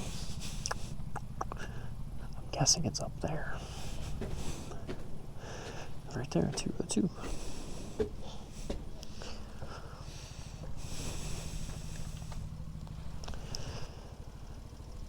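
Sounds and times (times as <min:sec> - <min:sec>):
small motorcycle engine idling: 0:00.0 - 0:15.0.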